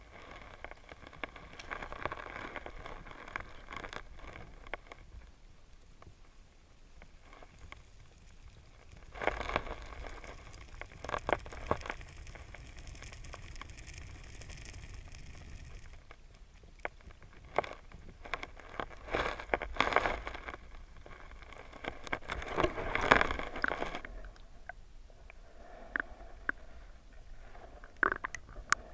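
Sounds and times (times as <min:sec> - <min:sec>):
underwater clicks and crackles: 0:00.0 - 0:28.9.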